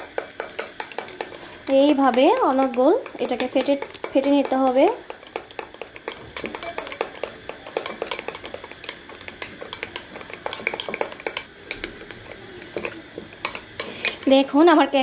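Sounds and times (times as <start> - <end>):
spoon clinking against bowl: 0.0 - 14.3.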